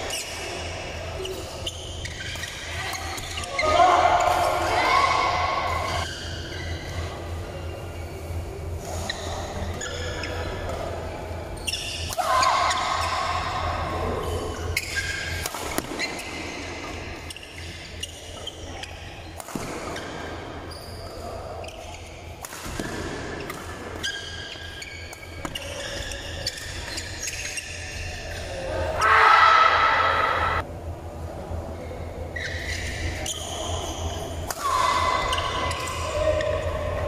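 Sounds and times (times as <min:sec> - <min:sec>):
shoes squeaking on court floor: 0:00.0 - 0:04.6, 0:05.6 - 0:13.6, 0:14.2 - 0:28.7, 0:32.3 - 0:36.7.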